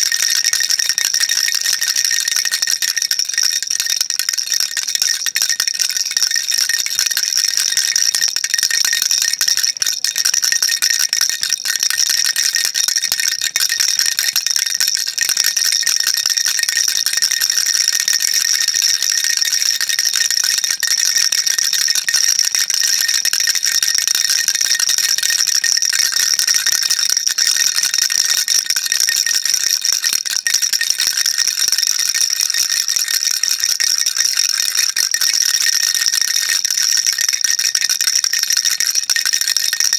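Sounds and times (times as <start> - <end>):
baby rattle shaken: 0.0 - 32.8.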